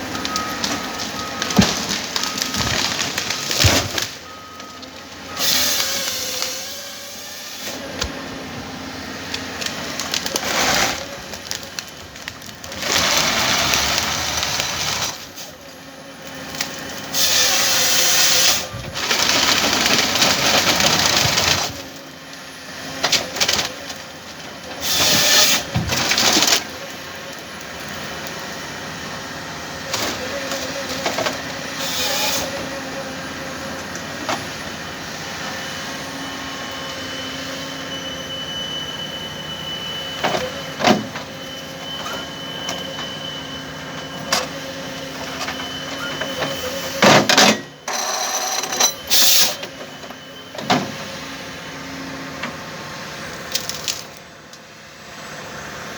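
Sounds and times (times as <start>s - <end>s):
forestry harvester engine running: 0.0s - 55.9s
harvester head working logs: 0.0s - 55.9s.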